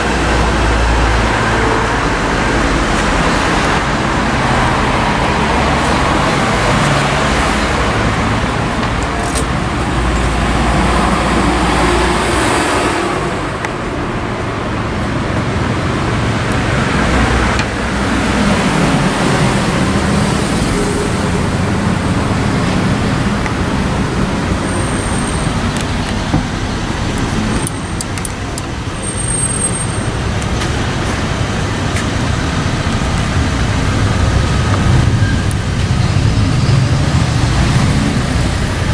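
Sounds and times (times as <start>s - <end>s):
road vehicles passing: 0.0s - 38.9s.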